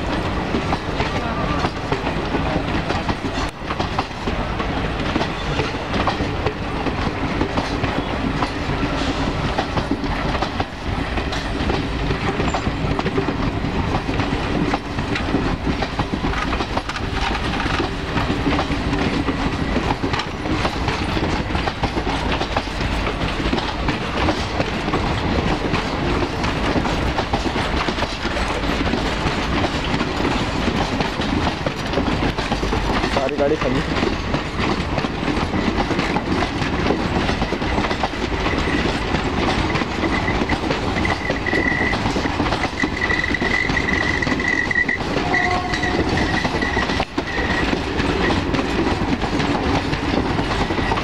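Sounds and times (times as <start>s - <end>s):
train wheels clattering over rails: 0.0s - 51.0s.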